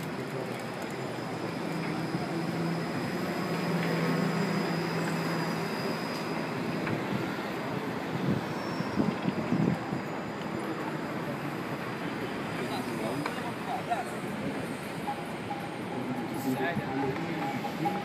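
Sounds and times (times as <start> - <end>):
city traffic noise: 0.0 - 18.0.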